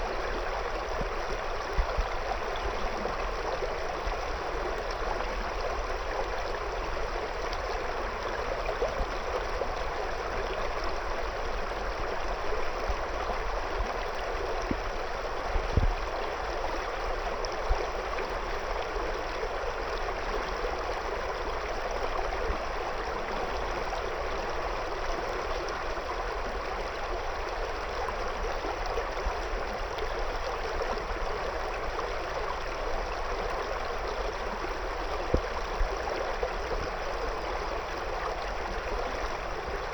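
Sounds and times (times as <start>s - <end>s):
river water gurgling over stones: 0.0s - 39.9s.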